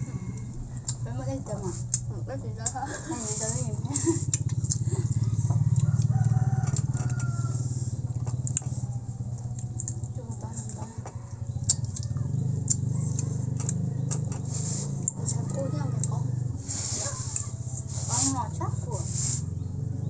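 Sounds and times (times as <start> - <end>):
small engine droning: 0.0 - 20.0.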